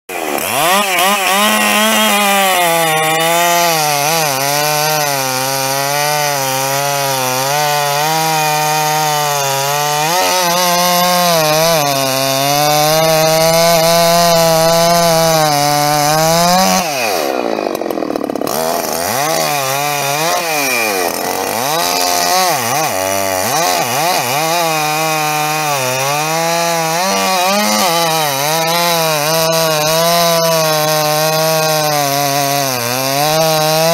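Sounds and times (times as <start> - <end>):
chainsaw cutting through log: 0.1 - 33.9.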